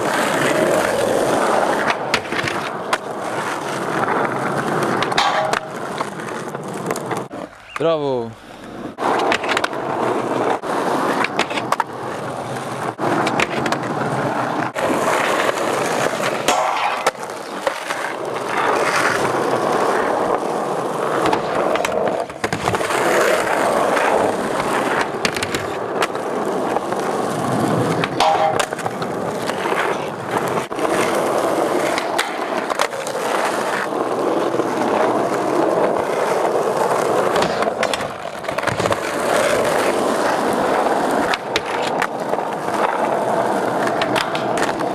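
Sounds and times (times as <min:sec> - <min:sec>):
skateboard clacks and scrapes: 0:00.0 - 0:07.8, 0:08.4 - 0:44.9
skateboard wheels on asphalt: 0:00.0 - 0:44.9.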